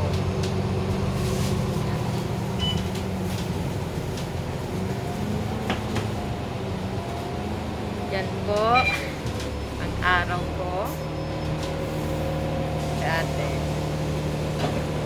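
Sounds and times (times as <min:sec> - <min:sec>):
bus engine hum: 0:00.0 - 0:15.0.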